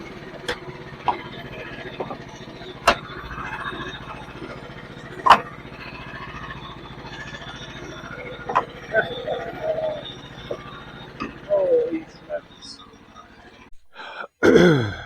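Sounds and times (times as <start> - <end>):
sawmill engine running: 0.0 - 14.2.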